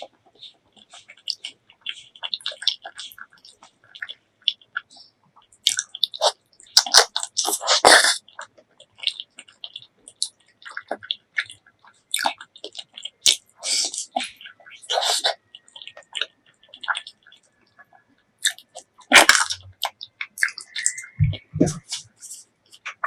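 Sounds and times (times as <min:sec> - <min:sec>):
wet chewing and lip smacks: 0:00.0 - 0:23.0.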